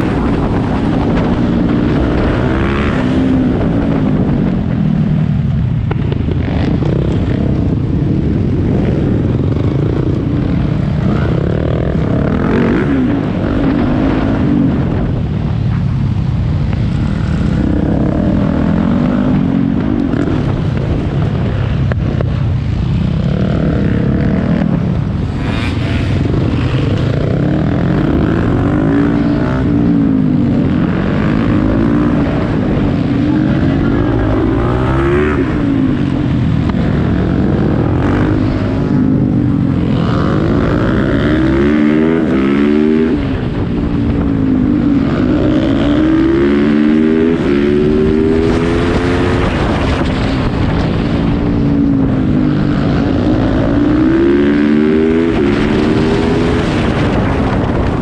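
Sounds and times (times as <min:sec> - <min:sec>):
motorcycle engine revving: 0:00.0 - 0:58.0
wind rush on microphone: 0:00.0 - 0:58.0.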